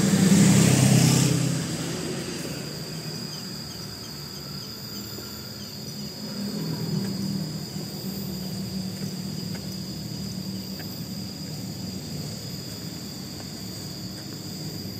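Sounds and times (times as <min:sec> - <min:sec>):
insects chirring: 0:00.0 - 0:14.9
low steady hum: 0:00.0 - 0:14.9.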